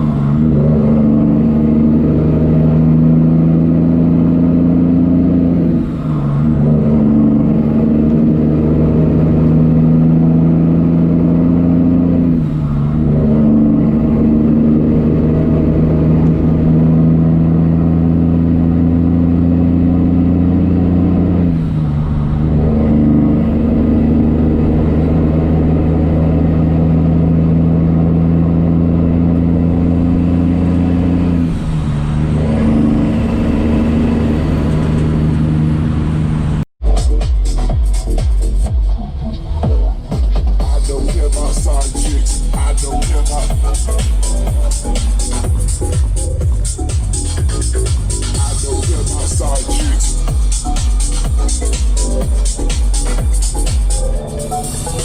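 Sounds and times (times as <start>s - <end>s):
truck diesel engine pulling: 0.0s - 55.0s.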